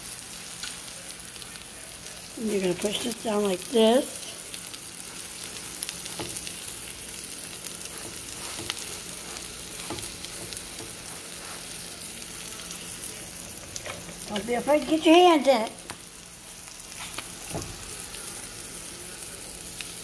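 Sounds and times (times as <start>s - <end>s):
egg sizzling in a frying pan: 0.0s - 20.0s.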